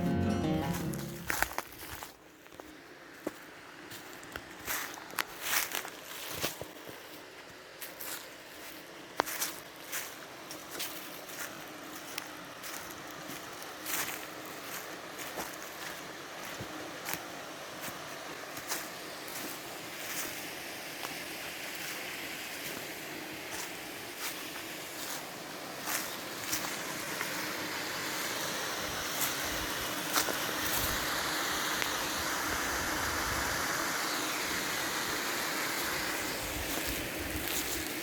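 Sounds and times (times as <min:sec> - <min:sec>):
footsteps on forest floor: 0:00.0 - 0:20.4, 0:21.0 - 0:27.6, 0:29.2 - 0:31.0, 0:35.7 - 0:38.0.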